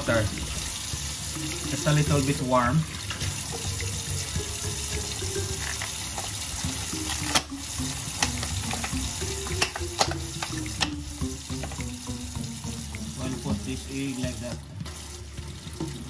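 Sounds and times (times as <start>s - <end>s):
tap running into sink: 0.3s - 16.0s.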